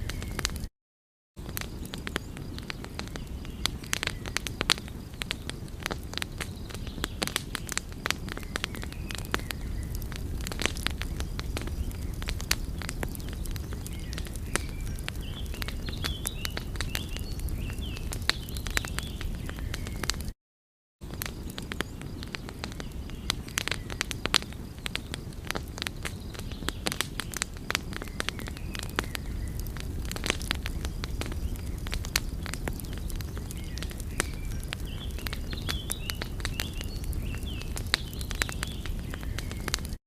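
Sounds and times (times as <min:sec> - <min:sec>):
wood fire crackling: 0:00.0 - 0:00.7, 0:01.4 - 0:20.4, 0:21.0 - 0:40.0.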